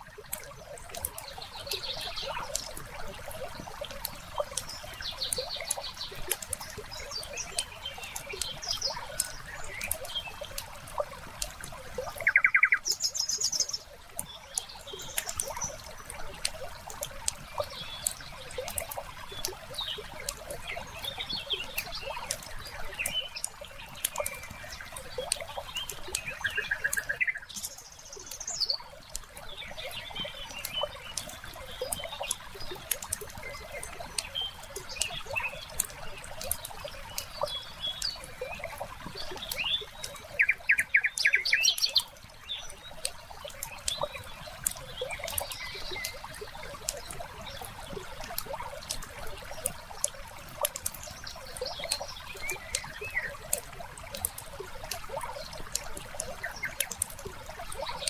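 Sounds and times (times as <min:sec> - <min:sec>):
small birds chirping: 0:00.0 - 0:58.0
wood fire crackling: 0:00.1 - 0:12.3, 0:13.9 - 0:29.5, 0:30.4 - 0:40.7, 0:41.8 - 0:58.0.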